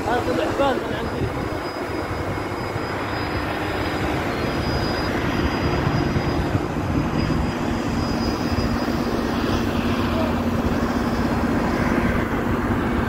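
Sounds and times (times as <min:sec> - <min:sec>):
diesel engine droning: 0:00.0 - 0:13.0
faint high whine: 0:00.0 - 0:13.0.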